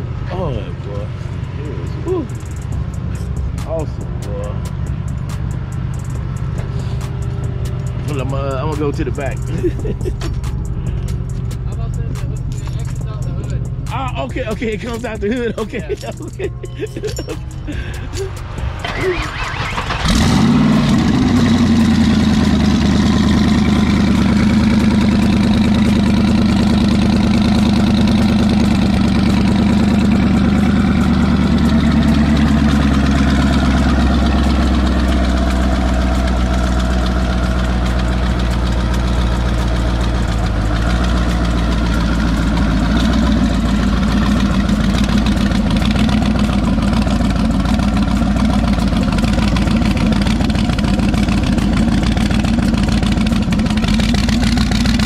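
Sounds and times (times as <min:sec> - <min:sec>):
car engine idling loudly: 0:00.0 - 0:55.0.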